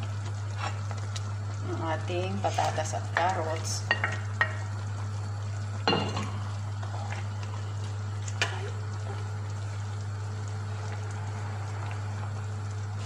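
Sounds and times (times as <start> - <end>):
sauce bubbling in a wok: 0.0 - 13.0.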